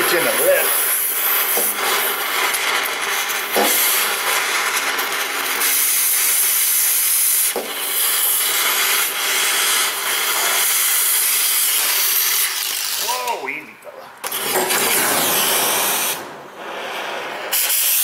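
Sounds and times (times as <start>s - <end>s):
cutting torch hissing: 0.0s - 13.6s, 14.2s - 18.0s
torch pops: 0.2s - 13.4s, 14.2s - 18.0s.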